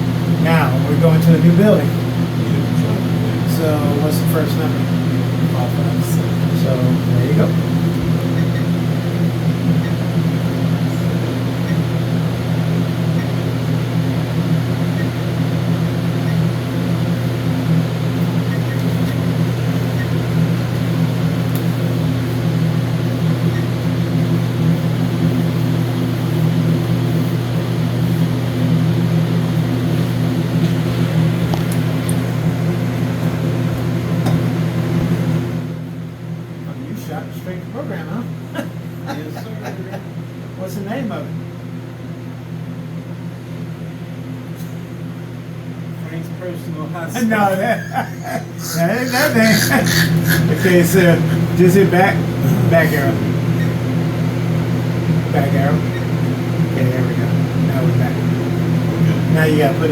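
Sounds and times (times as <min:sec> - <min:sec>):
motor humming: 0:00.0 - 0:43.0, 0:46.7 - 0:59.9.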